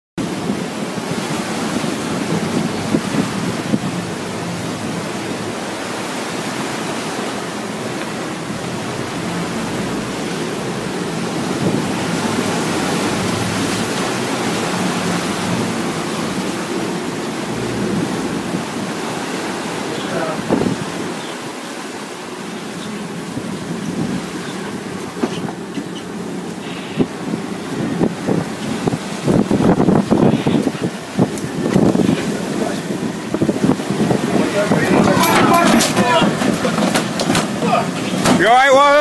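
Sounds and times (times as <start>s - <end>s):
churning water rushing: 0.1s - 39.0s
wind buffeting microphone: 0.2s - 21.6s, 22.2s - 38.6s.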